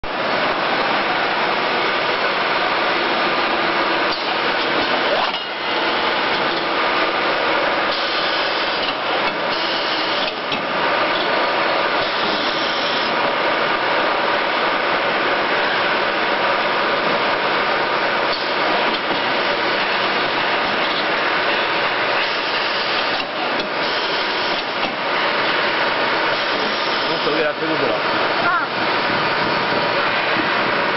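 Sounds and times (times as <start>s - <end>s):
wrapping machine clatter and hum: 0.0s - 30.9s.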